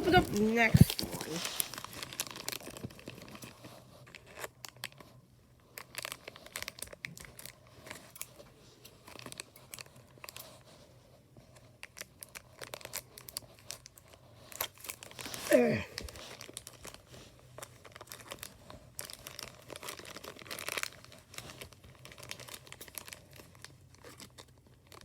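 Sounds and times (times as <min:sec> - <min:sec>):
plastic packaging tearing and crinkling: 0:00.0 - 0:05.1, 0:05.7 - 0:08.4, 0:09.0 - 0:10.6, 0:11.7 - 0:25.0.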